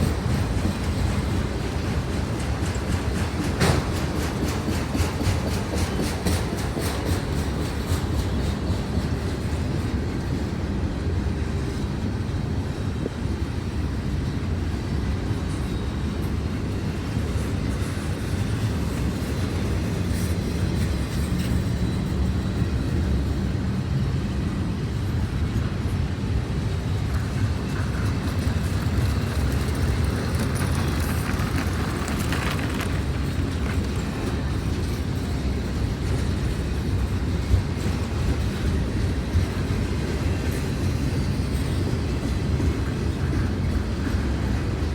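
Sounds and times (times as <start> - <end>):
train rattle or screech: 0.0 - 10.5, 14.2 - 24.3, 26.4 - 44.9
freight train rumbling past: 0.0 - 44.9.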